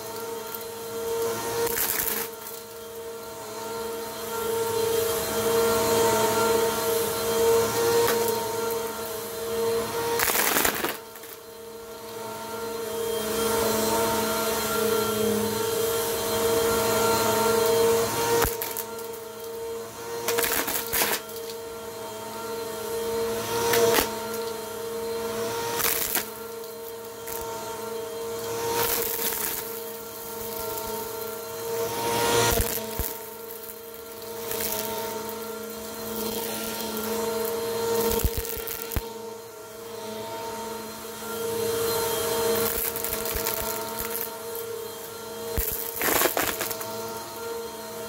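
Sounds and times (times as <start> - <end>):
vacuum cleaner motor whine: 0.0 - 48.0.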